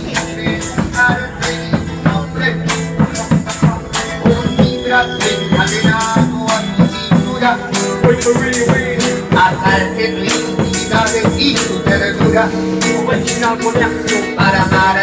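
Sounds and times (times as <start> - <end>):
instrumental acoustic band music: 0.0 - 15.0.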